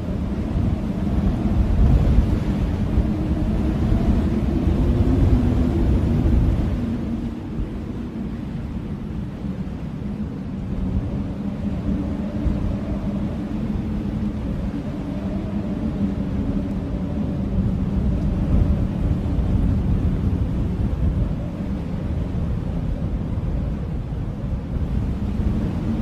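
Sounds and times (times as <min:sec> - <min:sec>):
blizzard wind howling: 0:00.0 - 0:26.0
faint hollow howl tone: 0:00.0 - 0:26.0
low rumble of gusts: 0:00.0 - 0:26.0.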